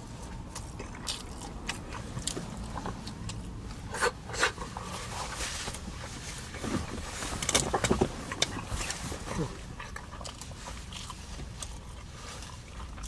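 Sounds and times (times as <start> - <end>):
chewing and lip-smacking: 0.0 - 13.0
low steady hum: 0.0 - 13.0.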